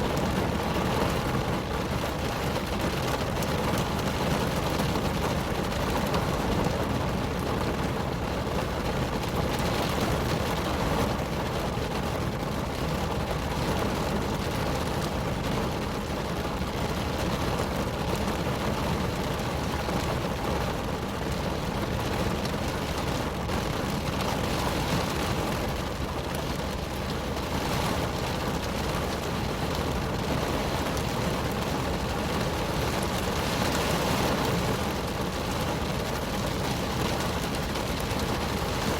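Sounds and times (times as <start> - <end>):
rain on car roof: 0.0 - 38.9.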